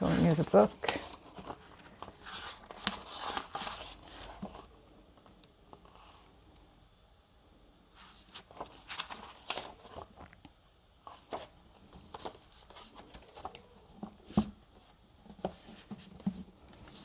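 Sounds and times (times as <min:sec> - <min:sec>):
book pages rustling and turning: 0:00.0 - 0:06.3, 0:07.9 - 0:17.0.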